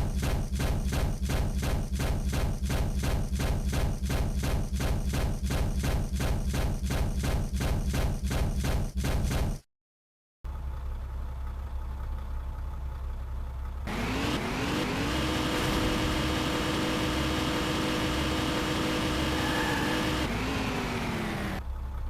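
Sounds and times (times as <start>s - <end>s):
car engine idling and revving: 0.0s - 9.5s, 10.5s - 22.0s.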